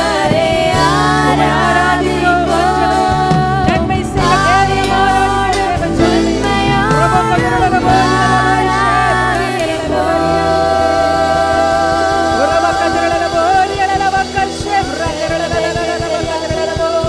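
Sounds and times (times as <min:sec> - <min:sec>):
person singing long notes: 0:00.0 - 0:17.0
worship backing music: 0:00.0 - 0:17.0.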